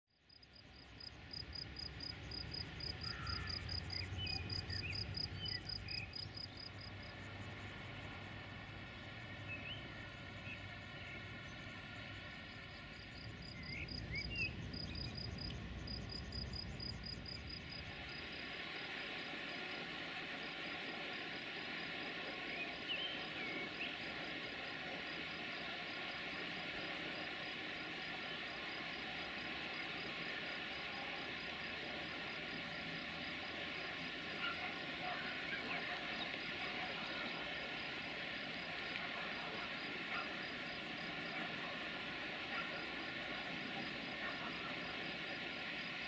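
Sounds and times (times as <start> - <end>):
crickets chirping: 0.1 - 46.0
steady hiss: 0.7 - 46.0.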